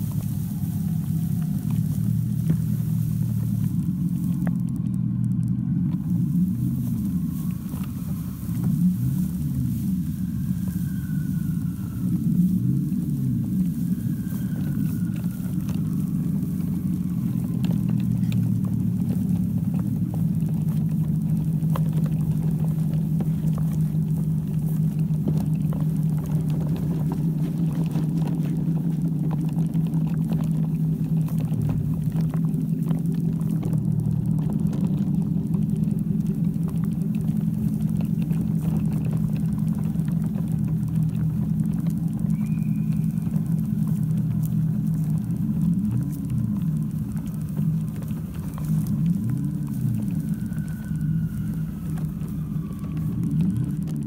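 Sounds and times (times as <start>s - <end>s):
low engine drone: 0.0s - 54.0s.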